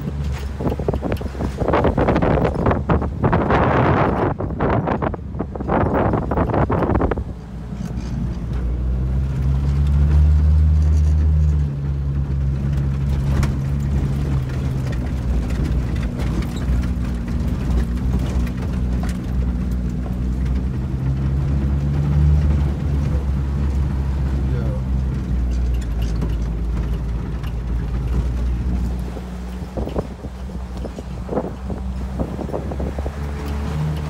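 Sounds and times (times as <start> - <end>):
engine droning inside cab: 0.0 - 34.0.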